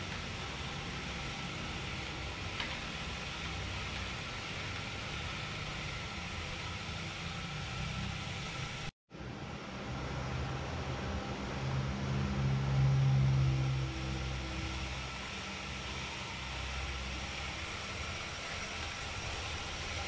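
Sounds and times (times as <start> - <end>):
bike on indoor trainer whirring: 0.0 - 20.0.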